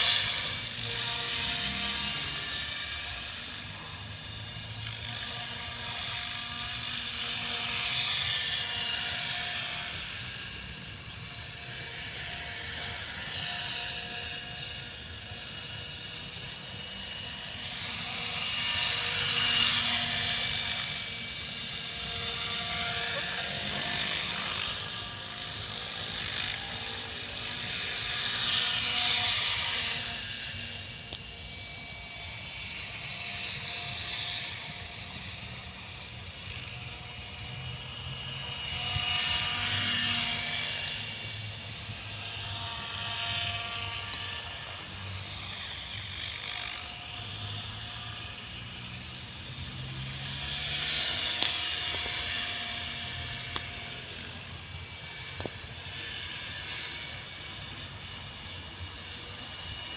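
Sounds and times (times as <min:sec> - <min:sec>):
model helicopter flying: 0:00.0 - 0:59.9.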